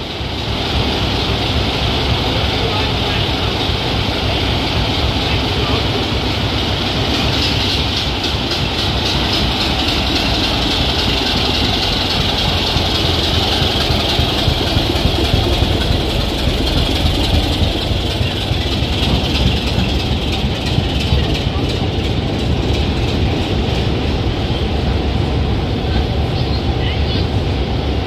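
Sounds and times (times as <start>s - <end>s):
diesel train engine: 0.0s - 28.0s
train wheels on rails: 0.0s - 28.0s.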